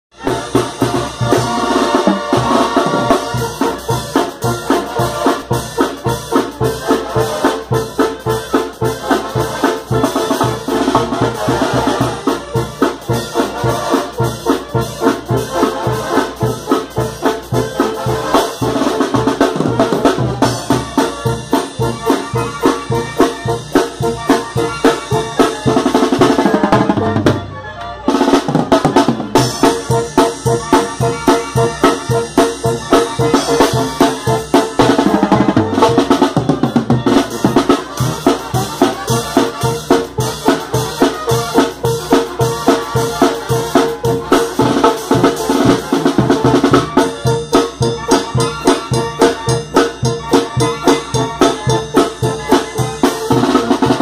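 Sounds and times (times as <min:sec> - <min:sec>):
snare drum and cymbals beat: 0:00.1 - 0:27.4, 0:28.1 - 0:54.0
sousaphone and brass: 0:00.1 - 0:54.0.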